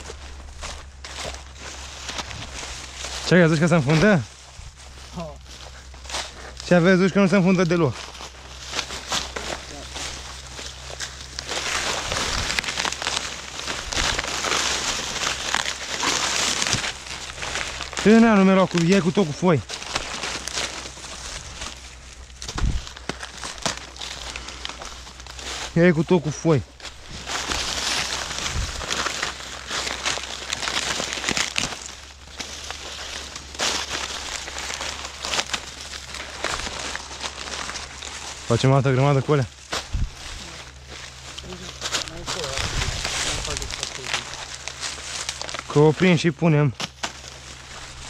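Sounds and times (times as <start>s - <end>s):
dry leaves rustling and crackling: 0.0s - 48.0s.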